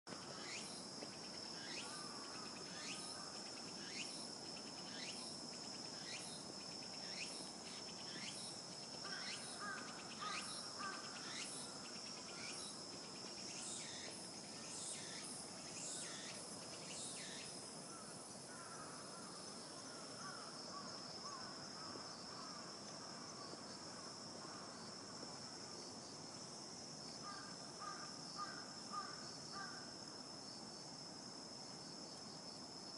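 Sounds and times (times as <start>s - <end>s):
insects trilling: 0.1s - 25.8s, 27.0s - 30.6s.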